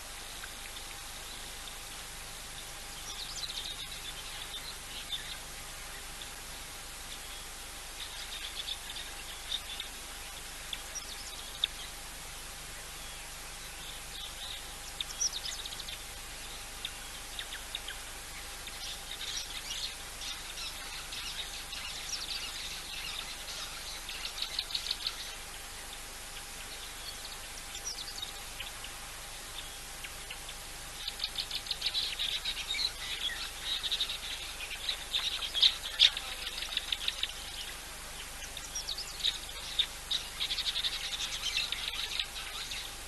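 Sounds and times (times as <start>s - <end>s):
background hiss: 0.0s - 43.0s
faint hum: 0.0s - 43.0s
small birds chirping: 0.0s - 43.0s.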